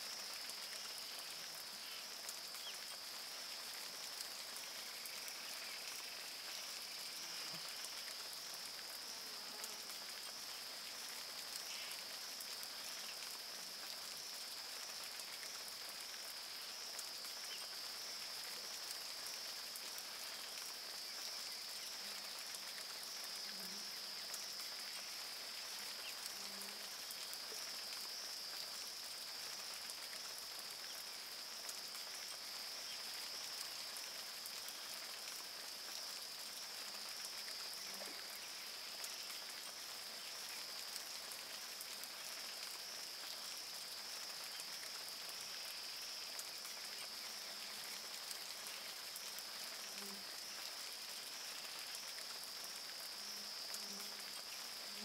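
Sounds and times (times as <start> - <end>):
rain pattering on river: 0.0 - 55.0.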